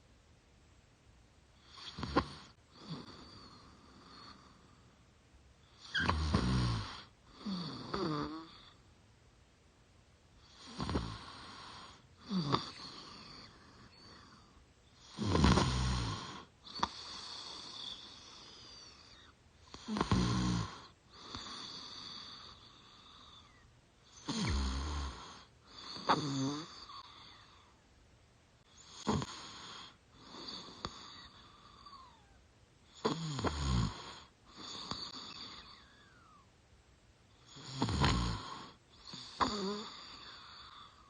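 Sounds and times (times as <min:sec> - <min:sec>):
woman snoring: 0:01.6 - 0:04.8, 0:05.7 - 0:08.8, 0:10.4 - 0:27.8, 0:28.7 - 0:36.4, 0:37.4 - 0:41.0.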